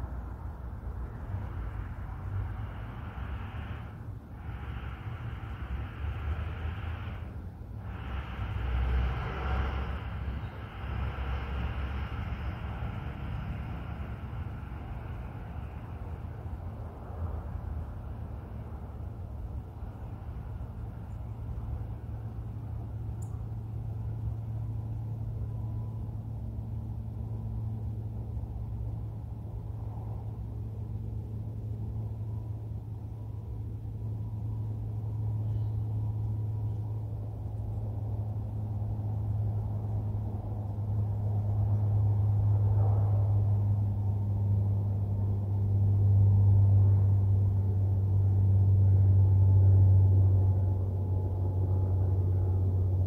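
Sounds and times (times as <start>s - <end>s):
low engine rumble: 0.0s - 53.0s.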